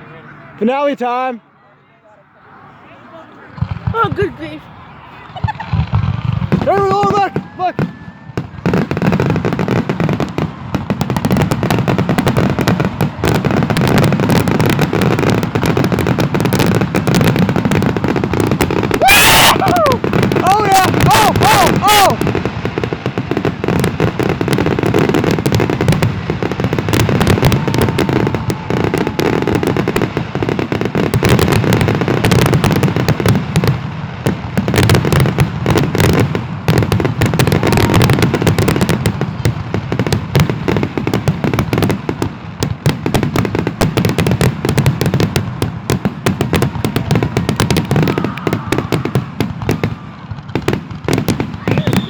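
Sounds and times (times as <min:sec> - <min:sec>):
fireworks bursts and crackling: 0:03.3 - 0:52.0.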